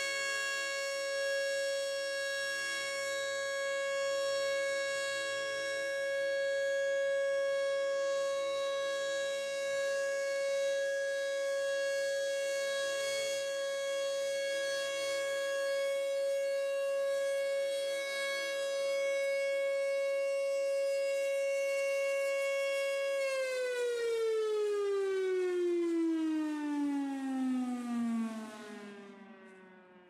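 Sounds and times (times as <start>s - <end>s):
rotating warning siren: 0.0s - 30.0s.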